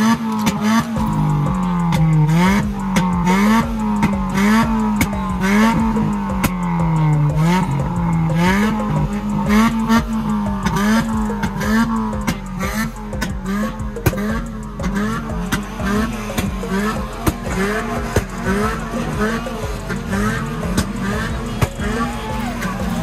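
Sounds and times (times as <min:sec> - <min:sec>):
car engine revving hard: 0:00.0 - 0:23.0
exhaust pops and crackles: 0:00.0 - 0:23.0.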